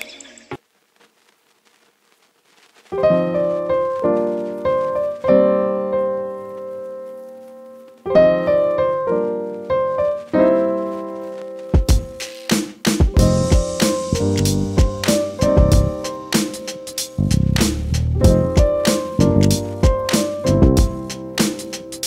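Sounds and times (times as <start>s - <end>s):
piano music: 3.0s - 22.0s.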